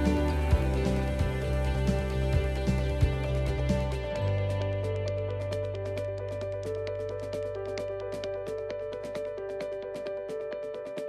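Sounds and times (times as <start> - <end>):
background music with ticking beat: 0.0 - 11.0.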